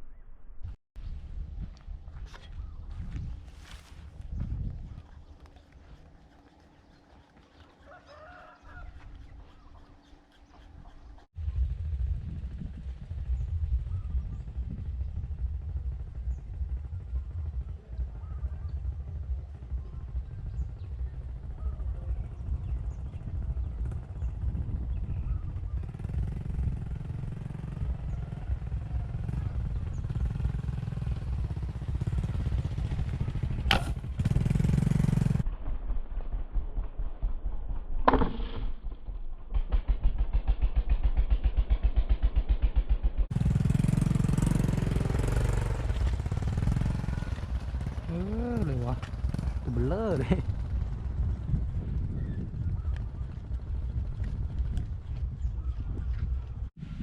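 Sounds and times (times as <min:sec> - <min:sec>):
small engine running: 0:03.0 - 0:57.0.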